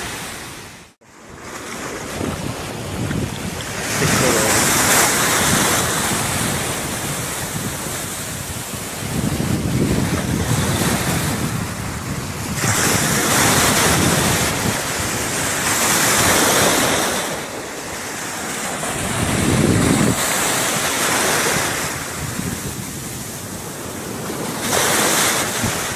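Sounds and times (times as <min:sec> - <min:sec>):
small waves breaking on shore: 0:00.0 - 0:25.9
wind rumble on microphone: 0:01.3 - 0:25.9.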